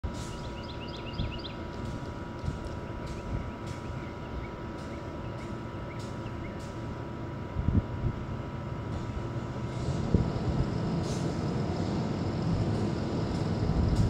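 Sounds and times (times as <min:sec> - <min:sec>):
diesel bus engine rumbling: 0:00.0 - 0:14.0.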